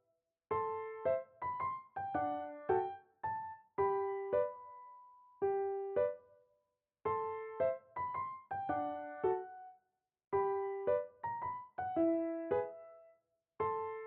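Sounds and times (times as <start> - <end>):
piano melody: 0.5 - 6.4, 7.1 - 9.8, 10.4 - 14.0.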